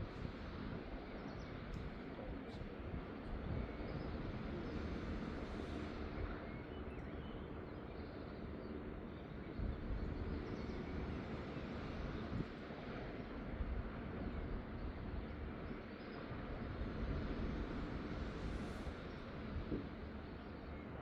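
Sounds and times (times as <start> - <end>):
low outdoor background noise: 0.0 - 21.0.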